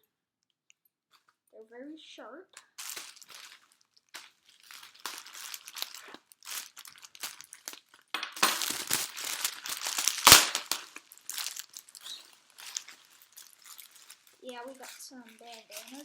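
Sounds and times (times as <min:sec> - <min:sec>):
packaging crinkling and rustling: 0:02.8 - 0:16.0.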